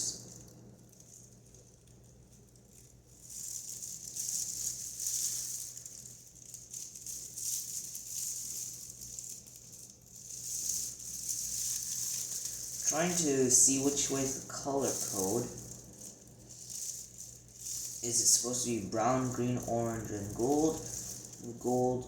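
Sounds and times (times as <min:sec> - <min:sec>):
faint low hum: 0:00.0 - 0:22.0
small parts rustling and rattling: 0:00.0 - 0:22.0.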